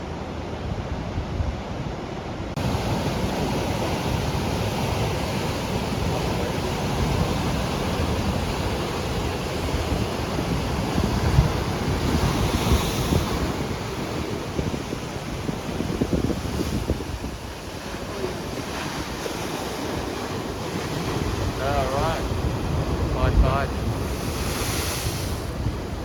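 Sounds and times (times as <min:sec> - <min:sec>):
ocean waves breaking: 0:00.0 - 0:26.0
wind buffeting microphone: 0:02.6 - 0:26.0.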